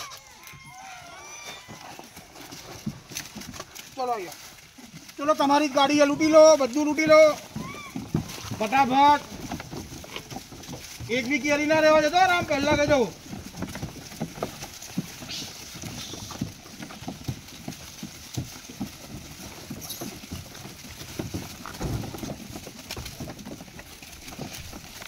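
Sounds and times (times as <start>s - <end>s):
monkeys scrambling over car: 0.0s - 25.0s
rustling dry leaves: 0.0s - 25.0s.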